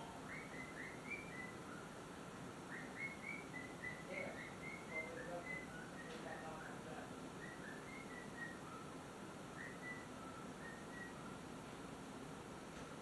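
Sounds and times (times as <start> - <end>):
young parrot chirping faintly: 0.0 - 2.0, 2.6 - 11.6.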